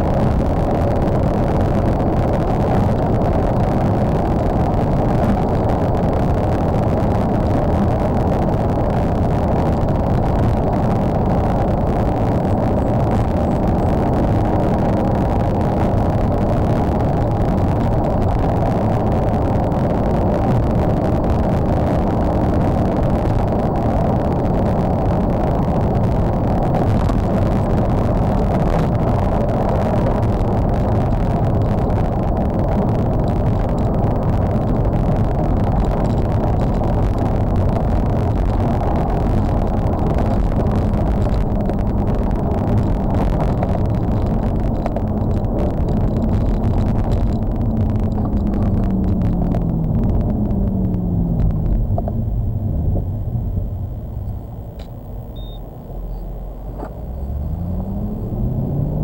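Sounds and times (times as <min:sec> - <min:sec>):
car engine drone: 0:00.0 - 0:59.0
tyre and wind noise: 0:00.0 - 0:59.0.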